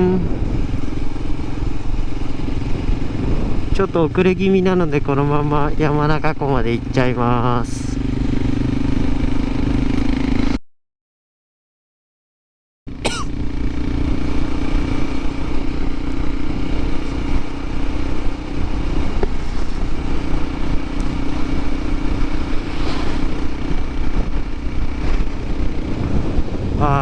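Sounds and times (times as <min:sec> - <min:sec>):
motorcycle engine running: 0:00.0 - 0:10.6, 0:12.9 - 0:27.0
wind and road noise: 0:00.0 - 0:10.6, 0:12.9 - 0:27.0.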